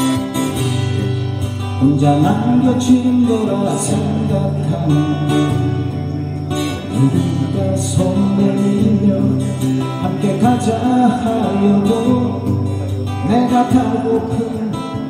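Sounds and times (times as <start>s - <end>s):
acoustic guitars strummed and picked: 0.0s - 15.0s
man singing into a microphone: 1.6s - 15.0s.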